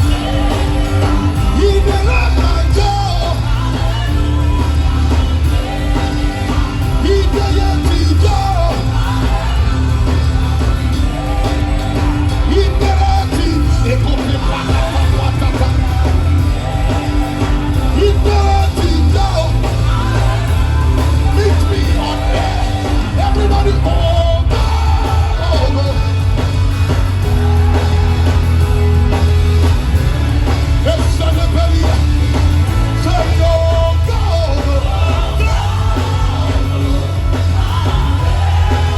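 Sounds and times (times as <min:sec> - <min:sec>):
gospel band playing: 0:00.0 - 0:38.9
voices singing: 0:00.0 - 0:38.9.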